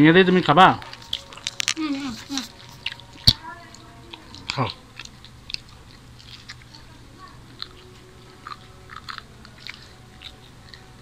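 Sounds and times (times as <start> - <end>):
low steady hum: 0.0 - 11.0
crunchy chewing: 0.7 - 11.0.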